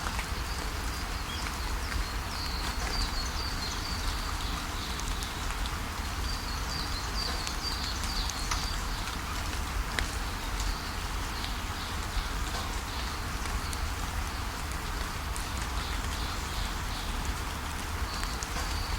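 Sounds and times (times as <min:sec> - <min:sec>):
raindrop clicks: 0:00.0 - 0:14.0, 0:14.7 - 0:18.9
steady rain falling: 0:00.0 - 0:18.9.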